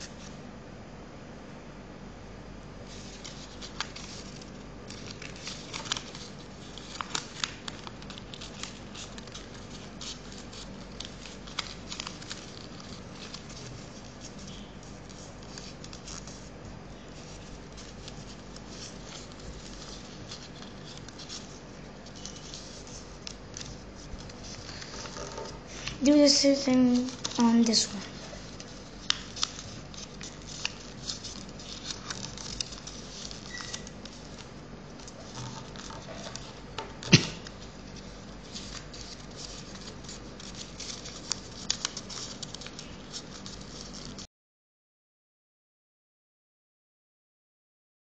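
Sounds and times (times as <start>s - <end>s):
steady low hum: 0.0s - 44.2s
paper being folded and creased: 2.8s - 44.3s.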